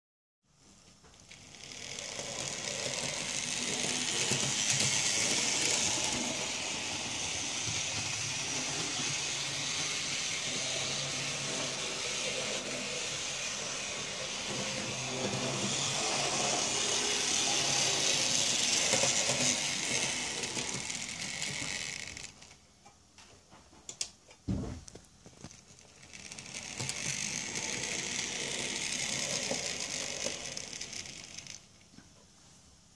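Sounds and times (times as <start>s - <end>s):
model train motor whirring: 1.0s - 22.6s, 25.4s - 31.8s.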